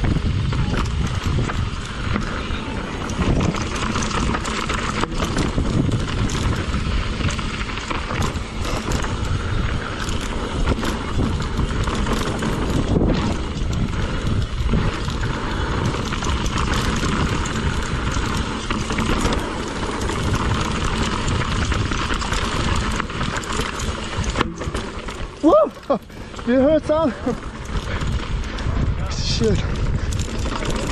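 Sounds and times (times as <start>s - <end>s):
bike rattling: 0.0s - 30.9s
bike tyres over dirt and rocks: 0.0s - 30.9s
wind noise on microphone: 0.0s - 30.9s.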